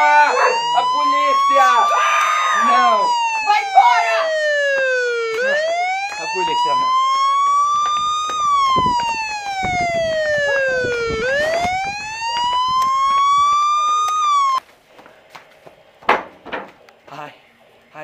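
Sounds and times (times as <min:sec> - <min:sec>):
police siren wailing: 0:00.0 - 0:14.6.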